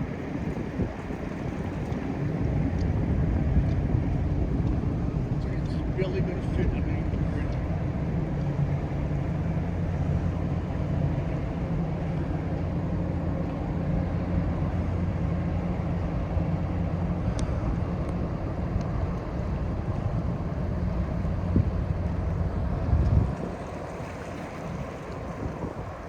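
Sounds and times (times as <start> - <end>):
ship engine drone: 0.0 - 26.0.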